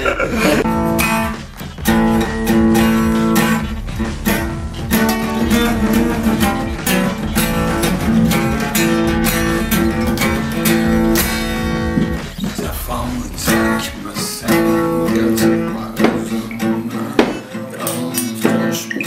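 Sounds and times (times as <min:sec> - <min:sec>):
acoustic guitar strumming: 0:00.1 - 0:19.0.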